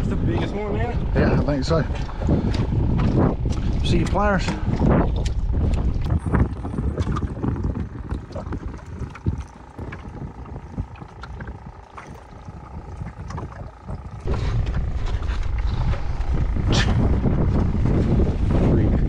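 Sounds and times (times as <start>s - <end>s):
water lapping around a boat: 0.0s - 19.0s
wind rumbling on the microphone: 0.0s - 19.0s.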